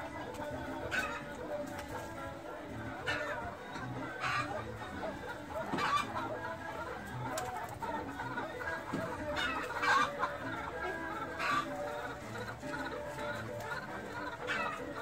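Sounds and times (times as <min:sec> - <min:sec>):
background birds: 0:00.0 - 0:15.0
pheasants calling: 0:00.0 - 0:15.0.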